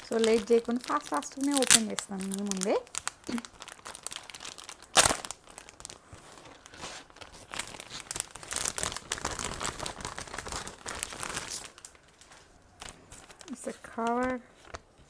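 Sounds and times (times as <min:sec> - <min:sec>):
packaging tearing and crinkling: 0:00.0 - 0:15.0.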